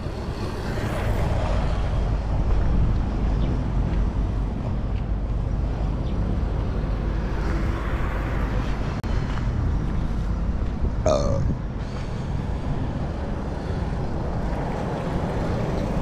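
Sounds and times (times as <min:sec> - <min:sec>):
street traffic: 0:00.0 - 0:16.0
wind rumble on microphone: 0:00.0 - 0:16.0.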